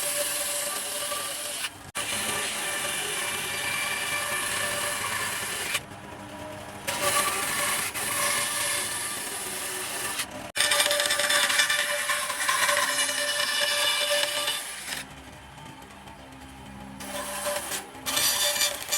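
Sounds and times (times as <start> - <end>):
power tool grinding wood: 0.0 - 5.8, 6.8 - 15.0, 17.0 - 18.9.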